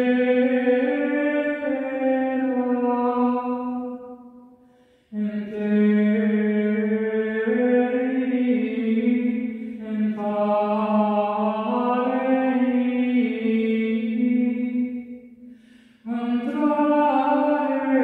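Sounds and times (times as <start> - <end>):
woman singing wordless tones: 0.0 - 4.0, 5.1 - 14.9, 16.0 - 18.0.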